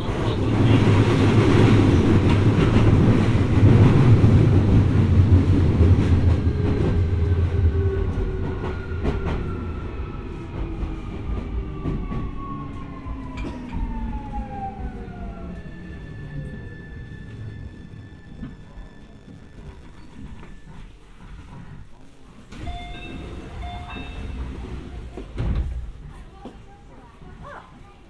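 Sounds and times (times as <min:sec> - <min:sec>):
train wheels rolling on rails: 0:00.0 - 0:28.0.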